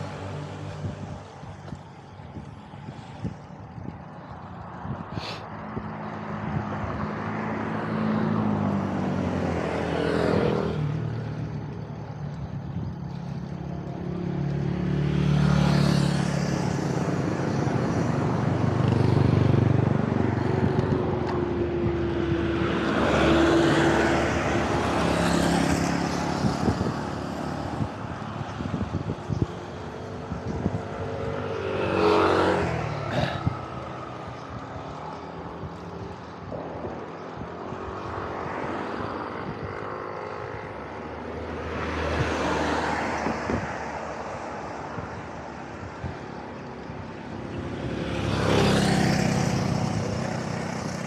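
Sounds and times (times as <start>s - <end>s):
cars passing: 0.0s - 51.0s
motorbikes passing: 0.0s - 51.0s.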